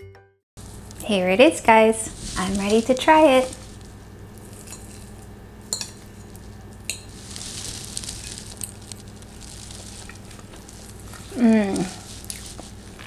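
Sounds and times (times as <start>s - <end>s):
steady low hum: 0.6s - 13.0s
pancake sizzling: 2.1s - 13.0s.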